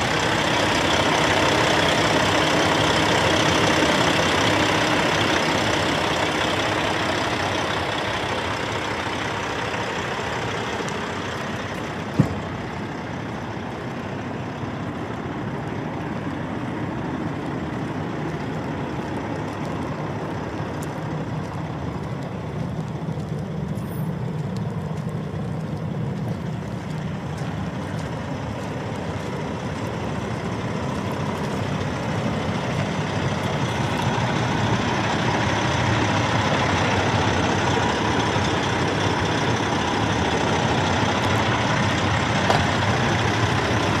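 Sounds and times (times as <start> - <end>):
diesel truck engine idling: 0.0 - 44.0.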